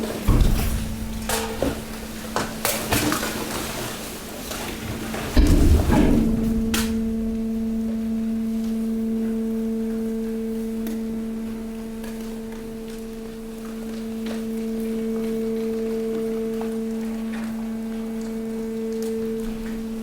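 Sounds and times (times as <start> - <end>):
hydraulic pump humming: 0.0 - 20.0.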